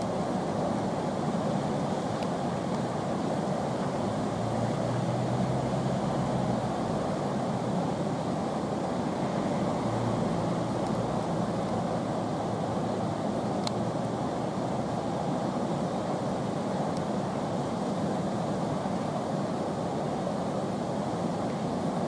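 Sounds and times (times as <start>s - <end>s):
whitewater rushing: 0.0s - 22.0s.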